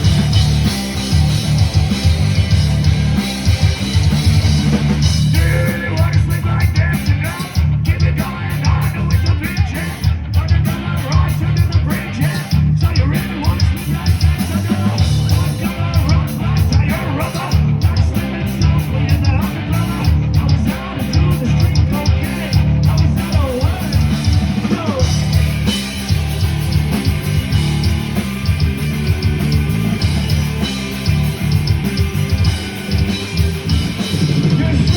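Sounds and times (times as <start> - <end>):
loud rock music: 0.0 - 34.9.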